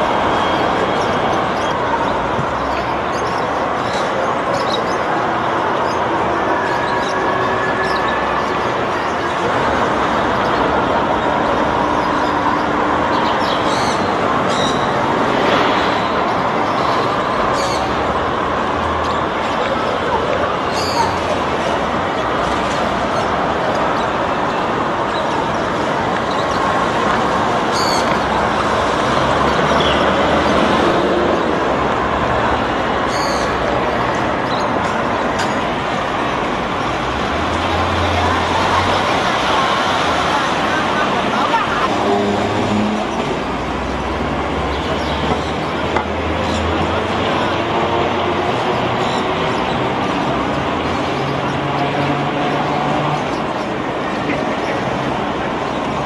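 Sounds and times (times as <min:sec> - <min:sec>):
city traffic noise: 0:00.0 - 0:56.0
passing vehicles: 0:00.0 - 0:56.0
tram running on rails: 0:00.0 - 0:56.0.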